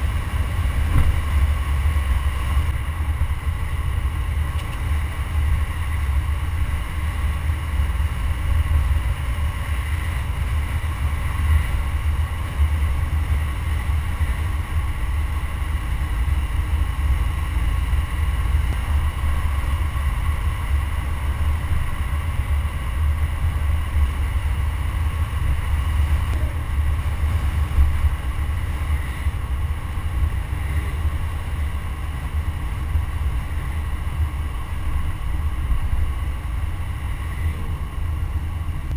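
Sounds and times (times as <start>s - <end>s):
faint steady whine: 0.0s - 38.9s
wind and road noise rumble: 0.0s - 38.9s.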